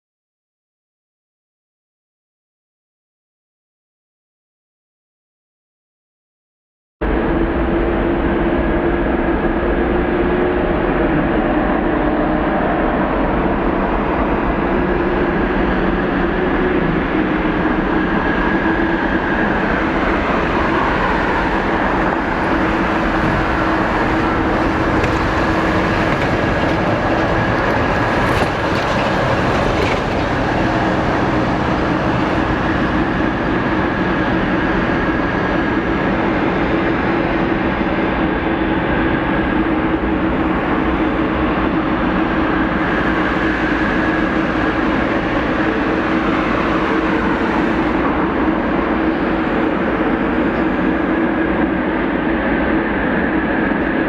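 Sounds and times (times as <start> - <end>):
jet engines running: 7.1 - 54.0.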